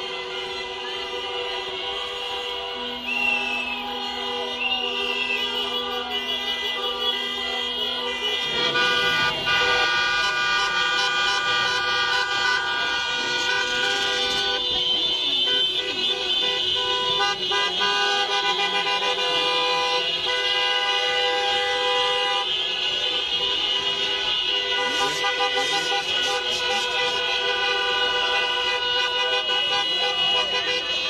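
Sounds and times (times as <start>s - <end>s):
car horns honking: 0.0s - 31.0s.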